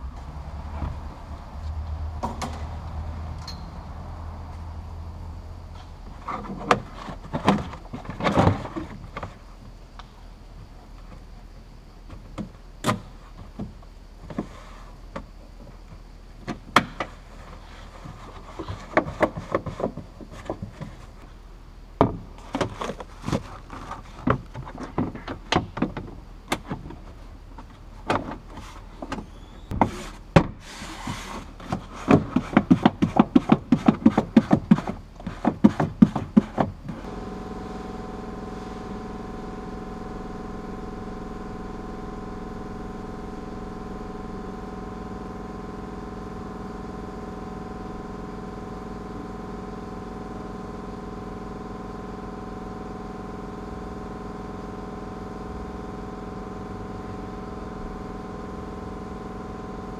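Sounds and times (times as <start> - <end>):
steady hum with tones: 0.0 - 59.9.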